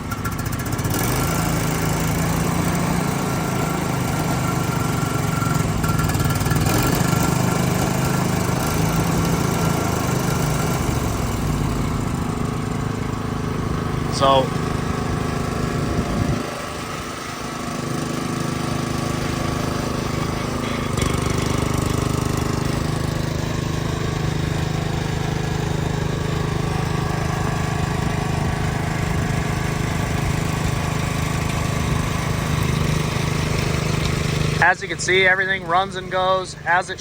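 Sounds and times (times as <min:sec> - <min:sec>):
sawmill drive motor running: 0:00.0 - 0:37.0.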